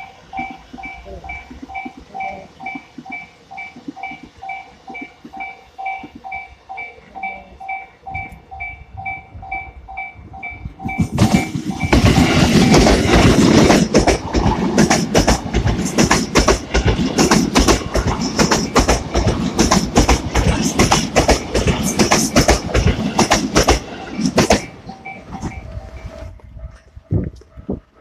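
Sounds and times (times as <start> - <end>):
train wheels clattering over rail joints: 0.0 - 6.9, 10.8 - 27.9.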